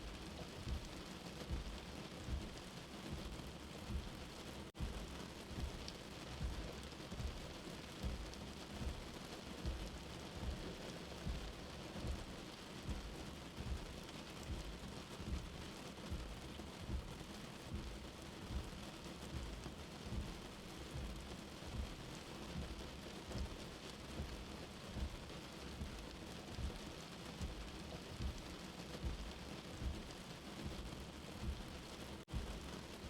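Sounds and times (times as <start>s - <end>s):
slow heartbeat thumps: 0.0s - 33.0s
steady rain: 0.0s - 33.0s.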